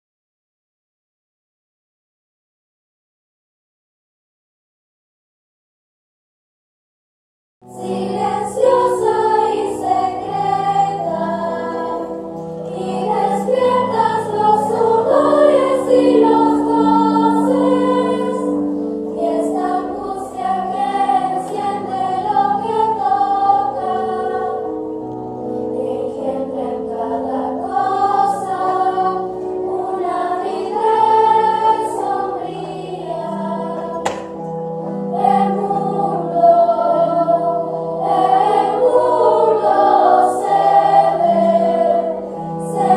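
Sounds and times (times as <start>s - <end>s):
children's choir singing: 7.7s - 42.9s
low instrumental accompaniment: 7.7s - 42.9s.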